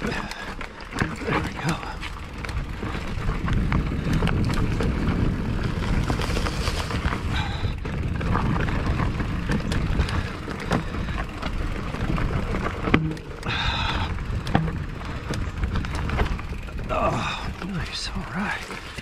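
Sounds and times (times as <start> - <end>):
bike rattling over rock: 0.0 - 19.0
tyre and wind rumble: 0.0 - 19.0.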